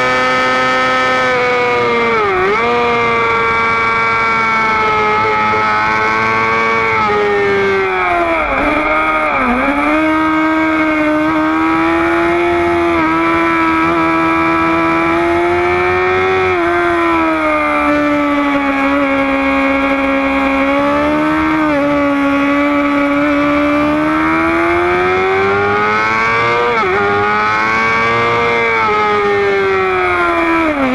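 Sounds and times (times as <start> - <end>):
high-revving motorcycle engine: 0.0 - 30.9.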